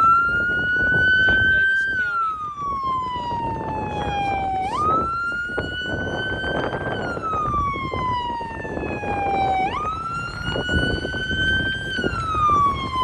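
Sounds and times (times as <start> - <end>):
police siren wailing: 0.0 - 13.0
vehicle engine noise: 0.0 - 13.0.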